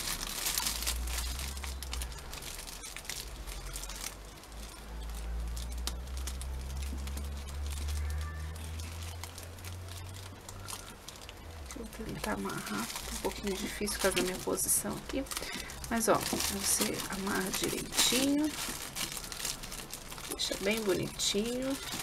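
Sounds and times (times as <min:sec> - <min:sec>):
cellophane bag crinkling: 0:00.0 - 0:22.0.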